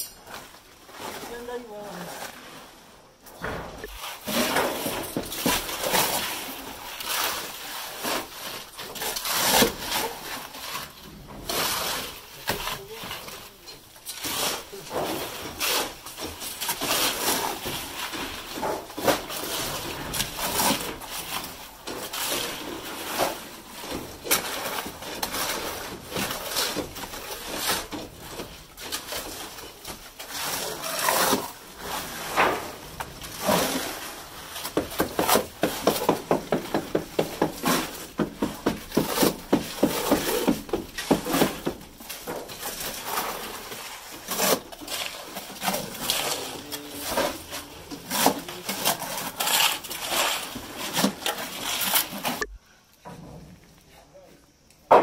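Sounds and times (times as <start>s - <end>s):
tool scraping wet concrete: 3.8s - 52.6s.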